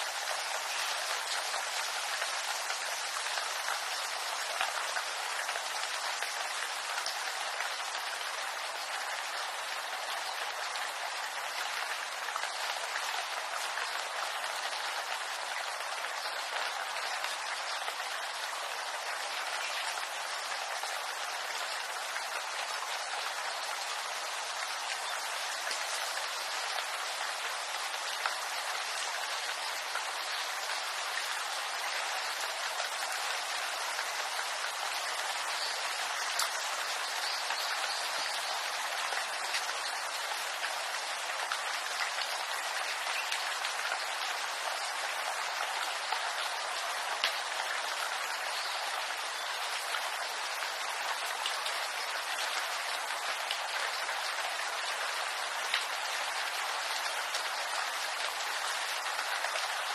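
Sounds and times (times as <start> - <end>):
rain on bamboo leaves: 0.0 - 59.9.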